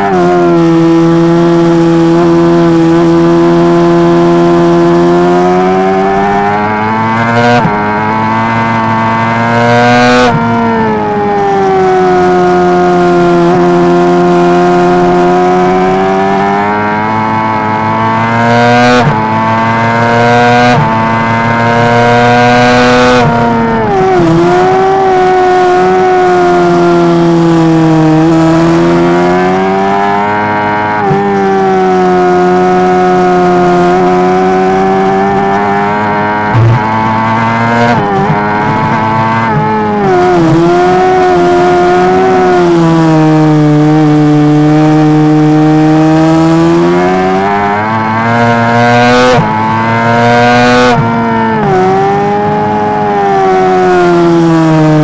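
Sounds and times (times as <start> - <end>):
motorcycle engine revving high: 0.0 - 55.0.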